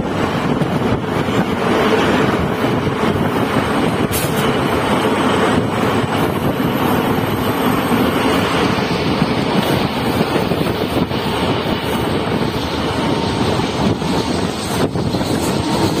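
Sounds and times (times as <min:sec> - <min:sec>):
train wheel and track noise: 0:00.0 - 0:16.0.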